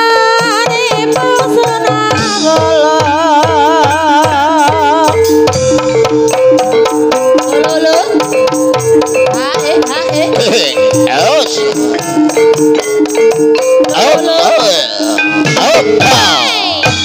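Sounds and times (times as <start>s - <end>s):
struck metallophones: 0.2s - 17.0s
wavering melody line: 2.2s - 17.0s.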